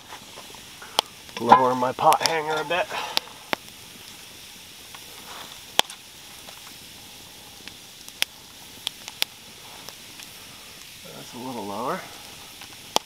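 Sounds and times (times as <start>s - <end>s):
campfire hissing and popping: 0.0s - 13.0s.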